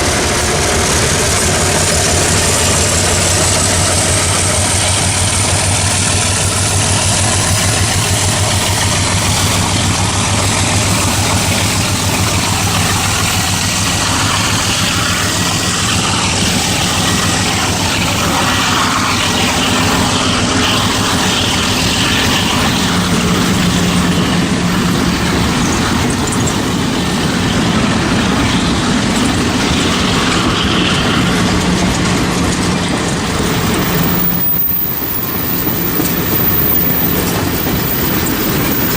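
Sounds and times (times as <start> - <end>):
diesel locomotive engine rumble: 0.0 - 38.9
train on rails: 0.0 - 38.9.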